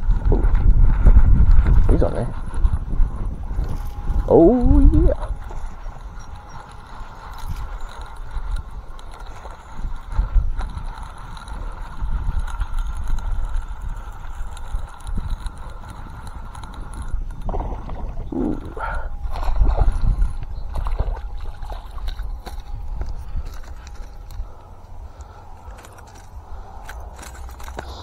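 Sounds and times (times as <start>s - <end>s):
fishing reel cranking: 0.0s - 28.0s
wind on microphone: 0.0s - 28.0s.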